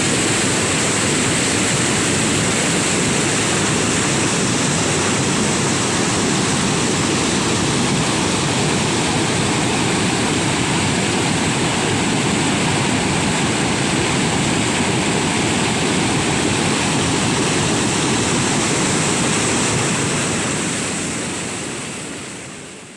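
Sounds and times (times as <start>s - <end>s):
fast-flowing river water rushing: 0.0s - 22.9s.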